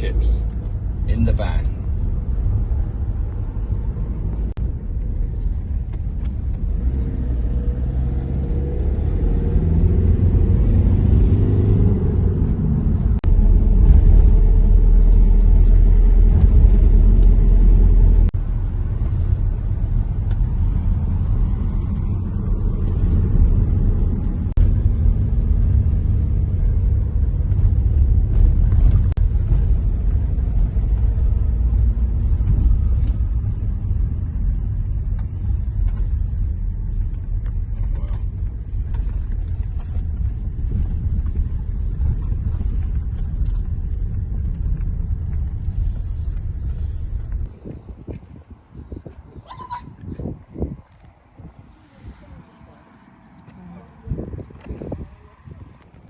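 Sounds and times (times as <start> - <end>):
heavier low rumble: 0.0 - 56.0
vehicle engine and road rumble: 0.0 - 56.0.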